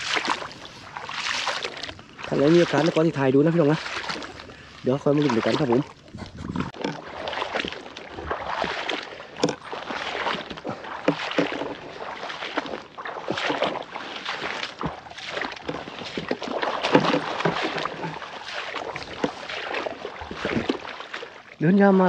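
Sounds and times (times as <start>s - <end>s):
footsteps wading through water: 0.0s - 22.0s.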